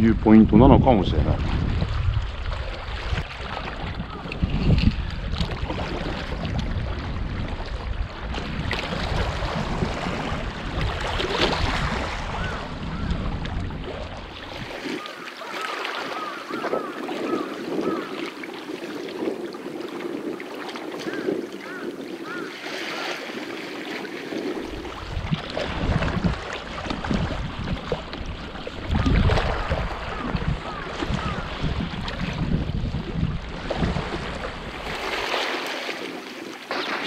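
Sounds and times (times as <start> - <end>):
wind on microphone: 0.0 - 37.0
sea water lapping against rocks: 0.9 - 37.0.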